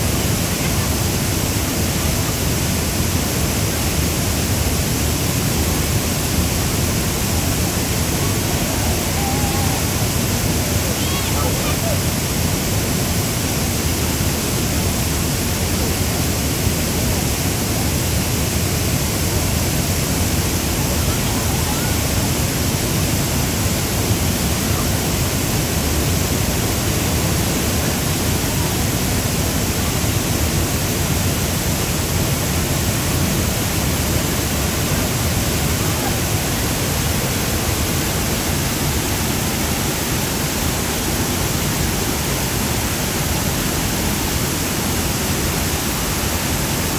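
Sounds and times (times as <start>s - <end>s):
waterfall rushing over rocks: 0.0s - 46.9s.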